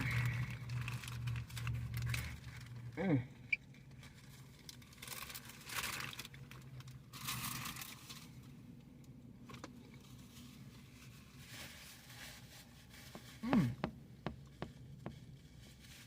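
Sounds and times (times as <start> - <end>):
paper bag rustling and crinkling: 0.0 - 3.0, 3.7 - 8.5, 9.9 - 13.8, 14.8 - 16.0
low steady hum: 0.0 - 16.0.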